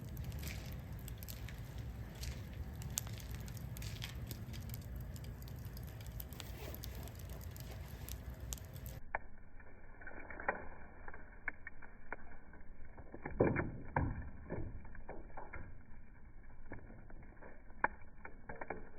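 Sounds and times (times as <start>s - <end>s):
sharp clicks and pops: 0.0s - 9.3s, 9.9s - 18.9s.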